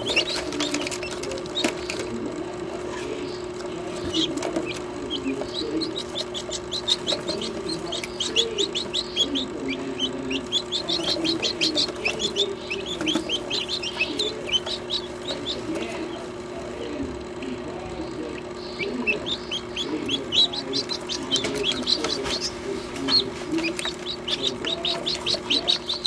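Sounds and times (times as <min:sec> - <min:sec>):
chicks peeping: 0:00.0 - 0:26.0
steady low hum: 0:00.0 - 0:26.0.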